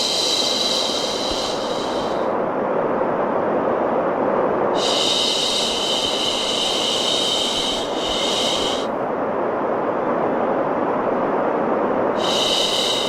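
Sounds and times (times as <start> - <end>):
deep brown noise hiss: 0.0 - 13.0.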